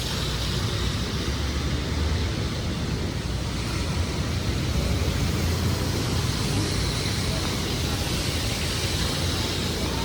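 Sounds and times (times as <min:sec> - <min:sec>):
traffic on wet road: 0:00.0 - 0:10.0
heavy rain: 0:01.6 - 0:10.0.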